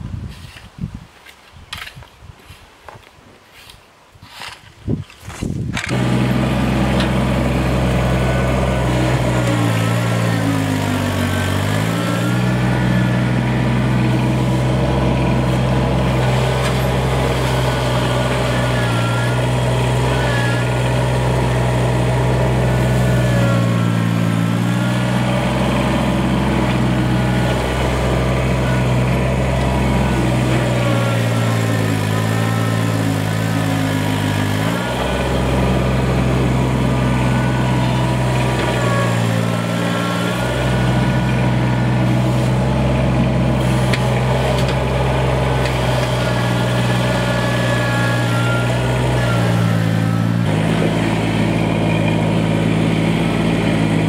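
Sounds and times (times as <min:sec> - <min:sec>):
tractor diesel engine running: 0:05.8 - 0:54.0.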